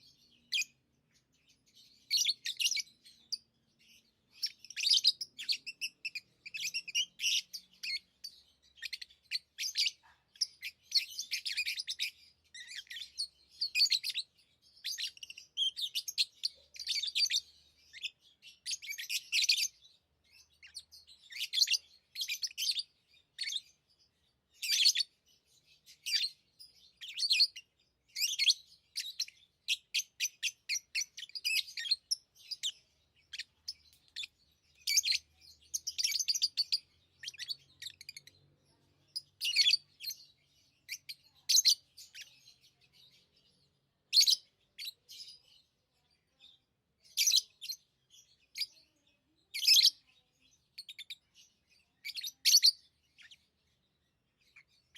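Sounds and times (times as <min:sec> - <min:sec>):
lovebirds chirping: 0:00.0 - 0:54.9.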